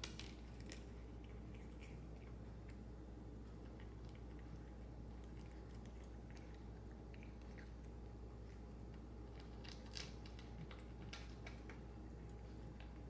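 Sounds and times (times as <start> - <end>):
cat crunching dry kibble: 0.0 - 13.0.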